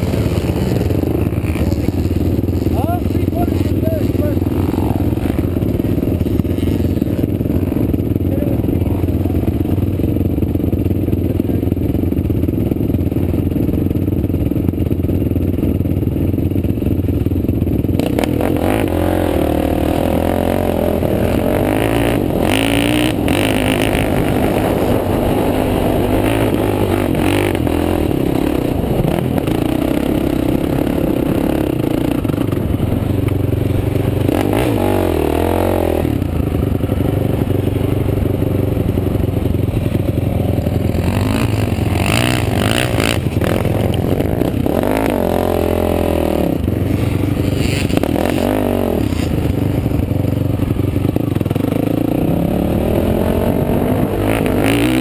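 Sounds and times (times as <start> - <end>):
quad engine idling and revving: 0.0 - 55.0.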